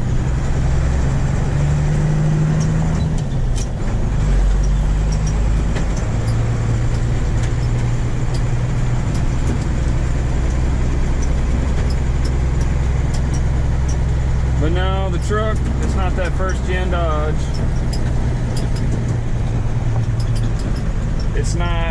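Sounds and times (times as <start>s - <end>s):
truck engine running: 0.0s - 21.9s
light rattles and clicks: 2.6s - 21.9s.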